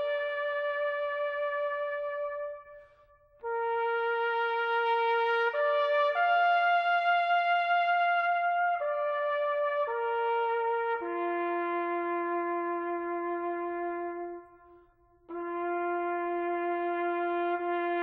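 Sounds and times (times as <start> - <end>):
brass horn long notes: 0.0 - 18.0.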